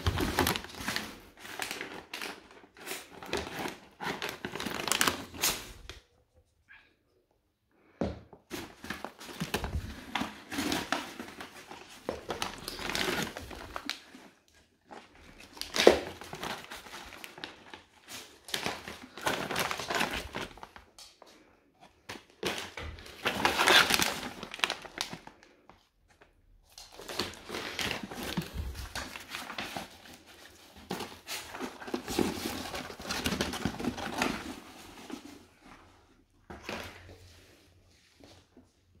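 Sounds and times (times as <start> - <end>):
packaging crinkling and rustling: 0.0 - 6.1, 8.5 - 38.7.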